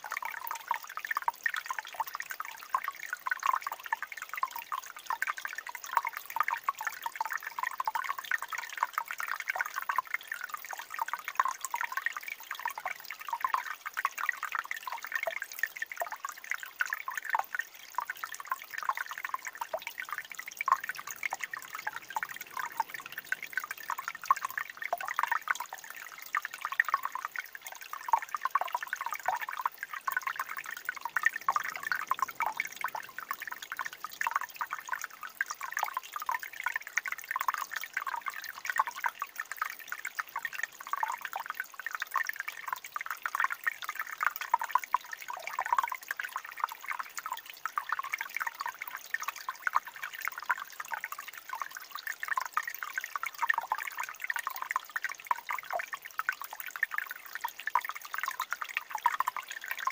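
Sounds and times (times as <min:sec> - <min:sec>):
water trickling over rocks: 0:00.0 - 0:59.9.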